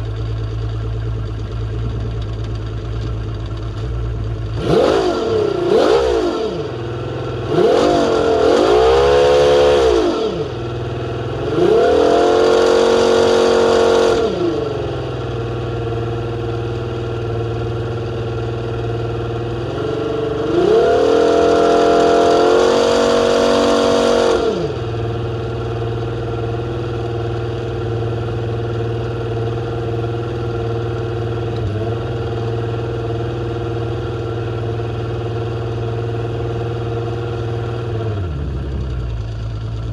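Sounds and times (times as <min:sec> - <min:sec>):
outboard motor idling and revving: 0:00.0 - 0:39.9.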